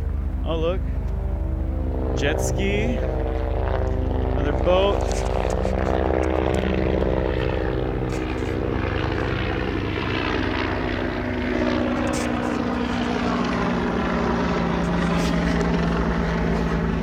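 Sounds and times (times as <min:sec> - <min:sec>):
aircraft engine drone: 0:00.0 - 0:17.0.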